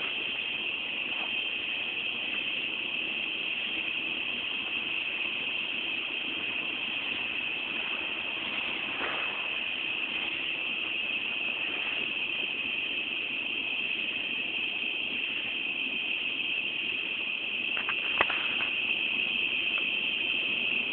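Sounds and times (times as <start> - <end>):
cicadas droning: 0.0 - 20.9.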